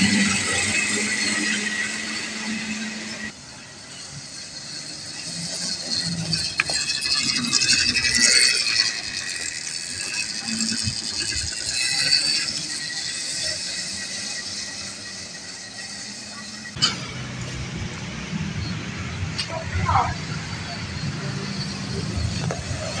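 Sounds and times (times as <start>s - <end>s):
electric bike rattling: 0.0s - 23.0s
outdoor noise: 0.0s - 23.0s.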